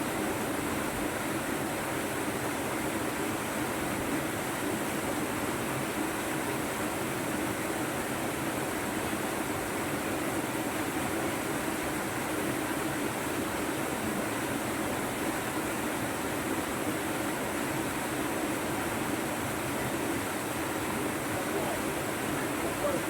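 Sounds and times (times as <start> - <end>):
river water rushing at waterfall: 0.0 - 23.0.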